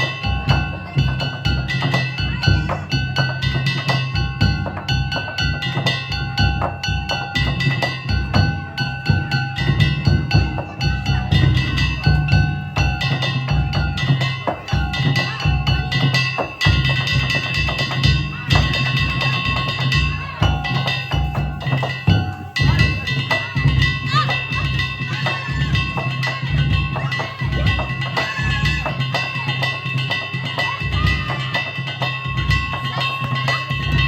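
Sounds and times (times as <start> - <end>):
taiko drums: 0.0 - 34.0.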